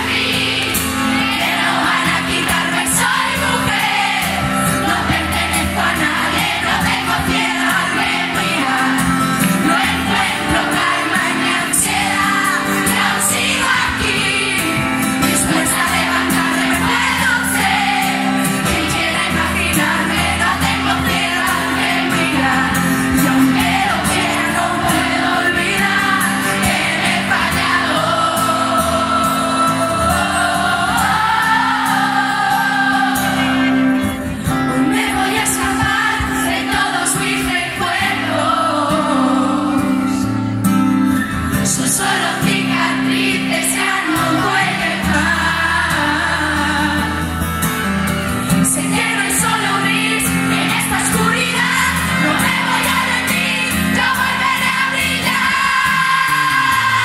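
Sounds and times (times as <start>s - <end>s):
live band playing: 0.0s - 57.0s
woman singing pop song: 1.4s - 33.6s, 34.7s - 40.5s, 41.6s - 47.3s, 48.5s - 57.0s.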